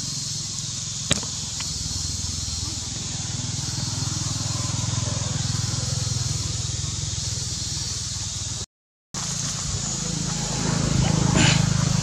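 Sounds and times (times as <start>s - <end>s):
steady high hiss: 0.0s - 8.6s, 9.2s - 12.0s
engine running with low pulse: 0.0s - 12.0s.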